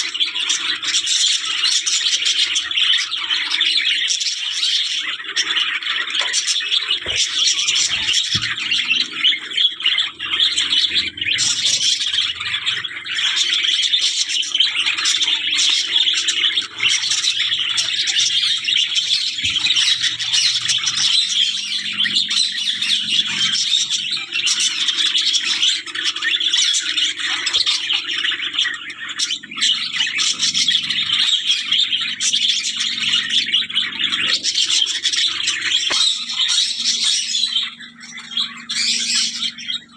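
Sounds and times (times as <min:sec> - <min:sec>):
bird squawk: 0:00.0 - 0:39.9
small birds chirping: 0:00.0 - 0:39.9.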